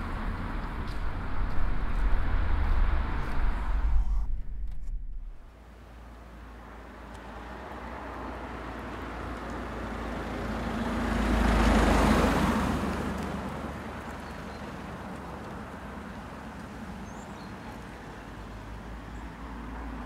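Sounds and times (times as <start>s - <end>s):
car passing: 0.0s - 20.0s.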